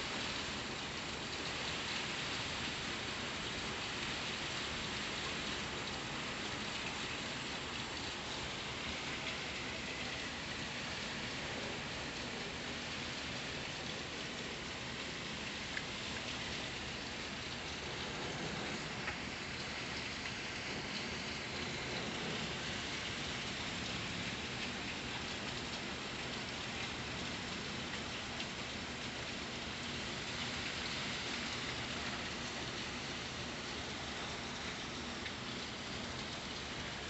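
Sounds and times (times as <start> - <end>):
steady rain hiss: 0.0 - 37.0
rain drop clicks: 3.4 - 37.0.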